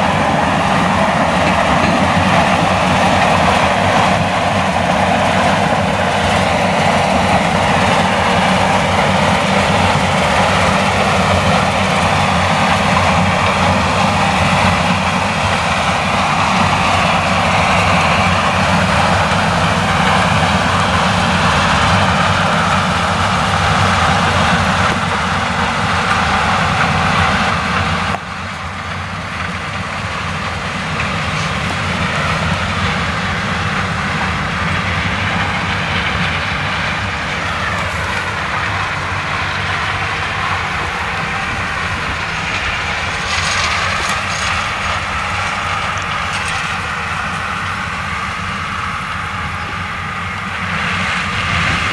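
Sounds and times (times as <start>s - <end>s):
combine harvester engine drone: 0.0s - 51.9s.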